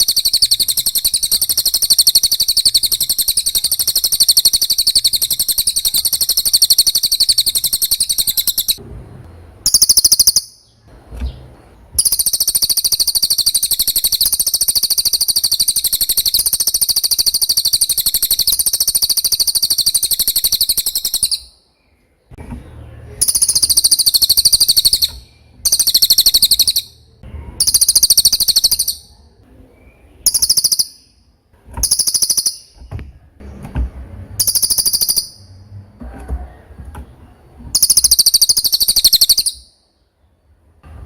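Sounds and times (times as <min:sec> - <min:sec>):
songbird trilling: 0:00.0 - 0:08.8, 0:09.6 - 0:11.4, 0:12.0 - 0:21.6, 0:23.1 - 0:32.9, 0:34.4 - 0:35.7, 0:37.7 - 0:39.8.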